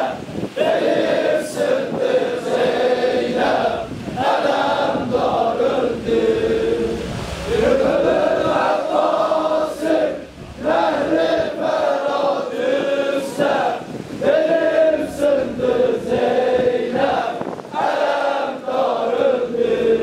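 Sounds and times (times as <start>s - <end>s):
group of voices chanting: 0.0s - 20.0s.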